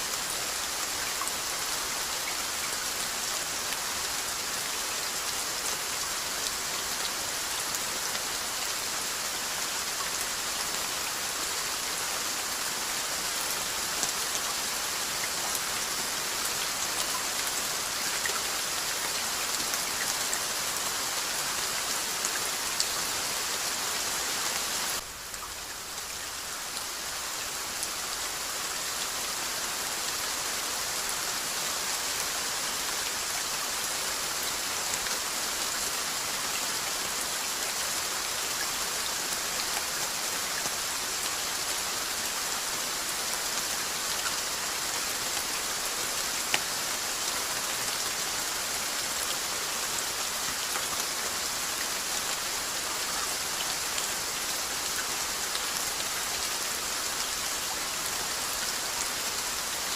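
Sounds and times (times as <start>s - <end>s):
steady rainfall hiss: 0.0s - 59.9s.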